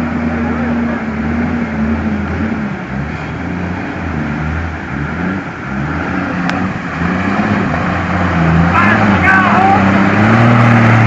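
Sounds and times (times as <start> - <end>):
bus engine running under load: 0.0 - 11.0.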